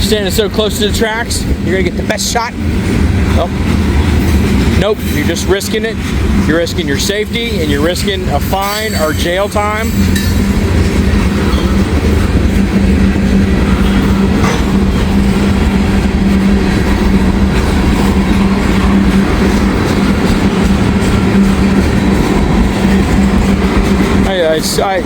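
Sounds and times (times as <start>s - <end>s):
constant low hum: 0.0s - 25.0s
freight train wheels rumbling: 0.0s - 25.0s.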